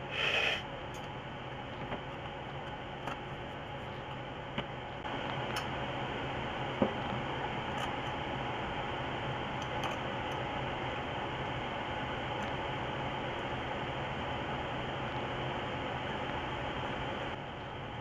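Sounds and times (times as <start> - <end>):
background hum and hiss: 0.0 - 18.0.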